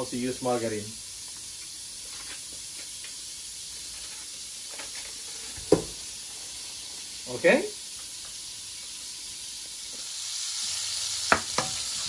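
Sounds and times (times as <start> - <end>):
stovetop hiss: 0.0 - 12.0.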